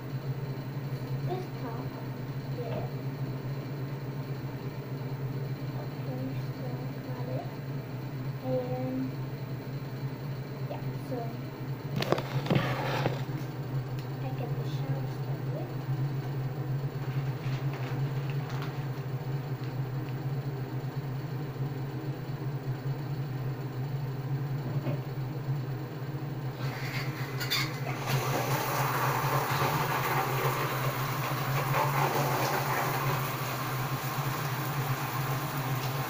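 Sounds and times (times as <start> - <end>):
low motor hum: 0.0 - 36.0.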